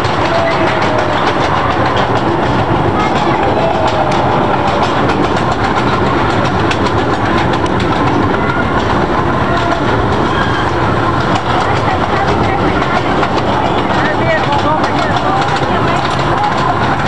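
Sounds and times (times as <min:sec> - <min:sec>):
ride train running on track: 0:00.0 - 0:17.0
wheels clacking on rails: 0:00.0 - 0:17.0.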